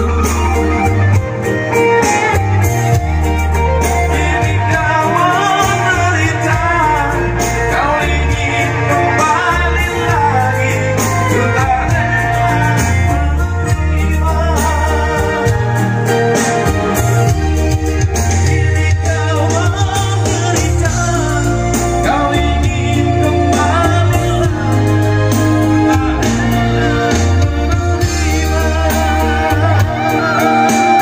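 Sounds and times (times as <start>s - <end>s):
electronic keyboard backing: 0.0s - 31.0s
man singing into a microphone: 0.0s - 31.0s
pulsing subwoofer bass: 2.4s - 16.0s, 17.0s - 30.1s.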